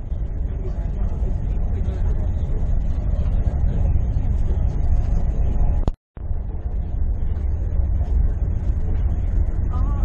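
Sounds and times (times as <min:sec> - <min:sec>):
vehicle rumble from inside cabin: 0:00.0 - 0:10.0.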